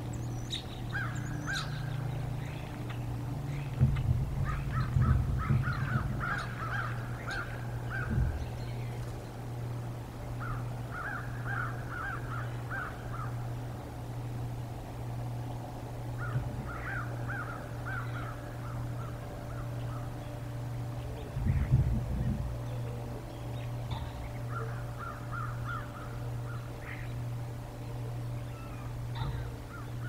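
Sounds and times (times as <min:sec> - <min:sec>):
bird calling in repeated notes: 0:00.0 - 0:30.0
steady low hum: 0:00.0 - 0:30.0.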